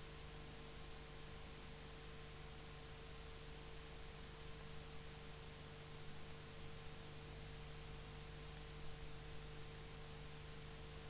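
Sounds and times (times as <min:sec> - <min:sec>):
faint high hum tone: 0:00.0 - 0:11.0
low electrical hum: 0:00.0 - 0:11.0.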